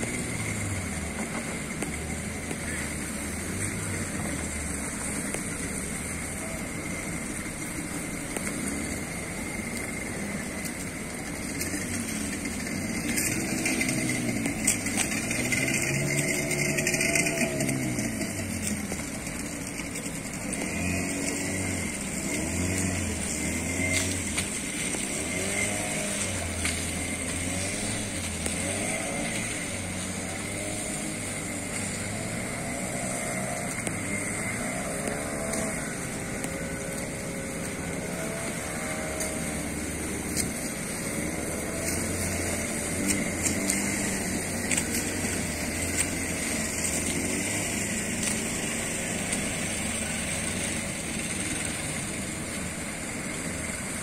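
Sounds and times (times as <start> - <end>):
boat engine running: 0.0 - 54.0
hiss of wind and water: 0.0 - 54.0.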